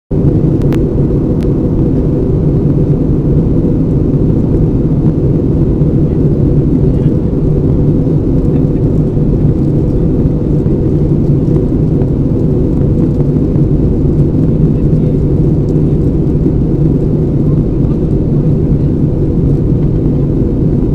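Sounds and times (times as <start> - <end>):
airplane cabin engine rumble: 0.1 - 20.9.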